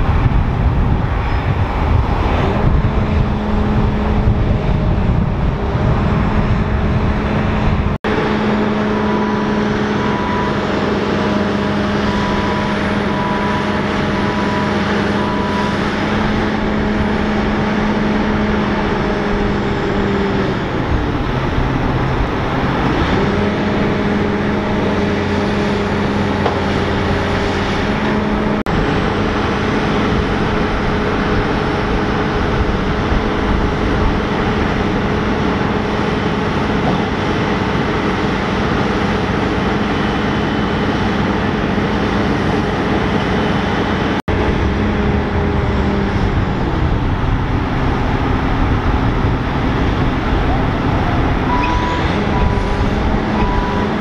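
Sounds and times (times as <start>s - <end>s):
diesel machinery droning: 0.0s - 54.0s.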